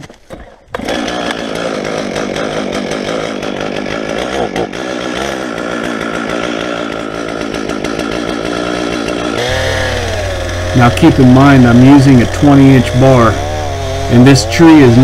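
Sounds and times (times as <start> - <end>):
chainsaw running: 0.3 - 15.0.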